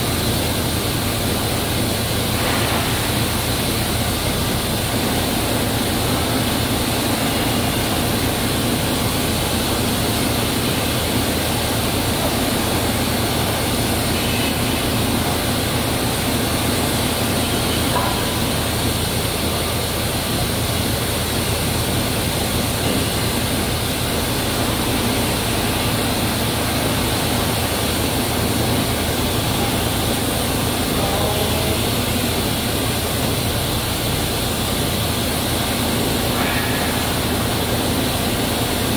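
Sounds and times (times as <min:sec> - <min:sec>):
dough machinery running: 0:00.0 - 0:38.9.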